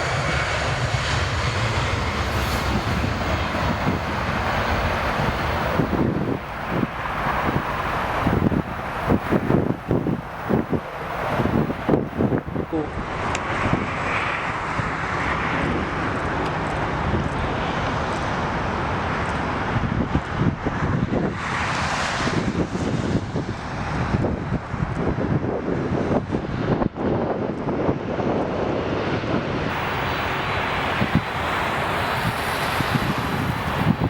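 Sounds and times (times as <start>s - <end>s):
jet engines rushing: 0.0s - 23.9s, 26.6s - 34.0s
wind buffeting on microphone: 0.0s - 34.0s.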